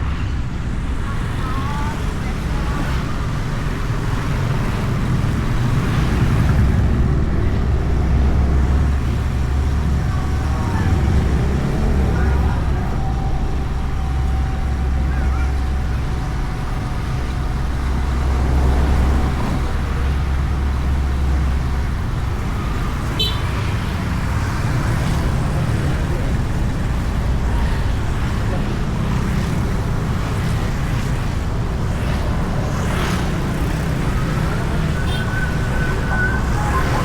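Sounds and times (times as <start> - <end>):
other vehicles: 0.0 - 37.0
road and wind noise: 0.0 - 37.0.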